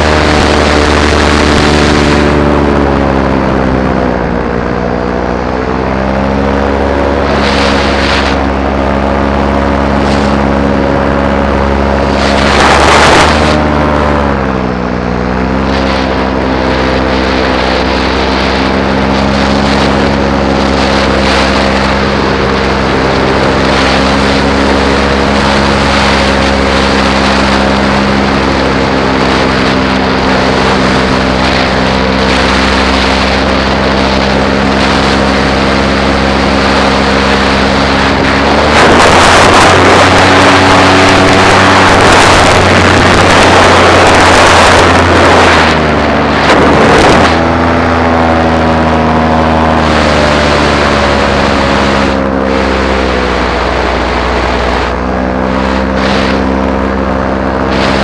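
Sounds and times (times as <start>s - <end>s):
loud rush of noise: 0.0s - 58.0s
paramotor engine and propeller: 0.0s - 58.0s.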